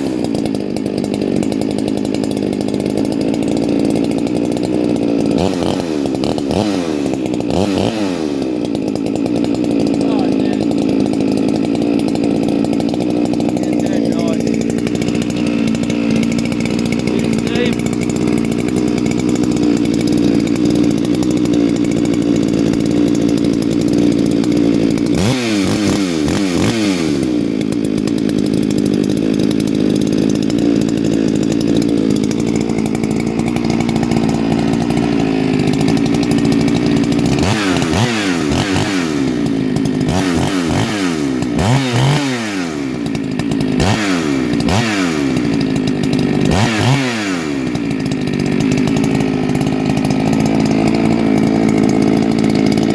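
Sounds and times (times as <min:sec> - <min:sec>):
chainsaw revving: 0:00.0 - 0:52.9.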